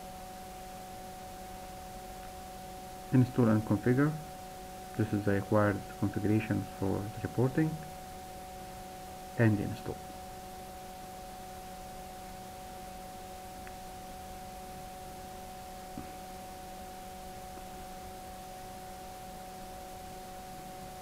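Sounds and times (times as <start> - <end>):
hum of held tones: 0.0 - 21.0
recording hiss: 0.0 - 21.0.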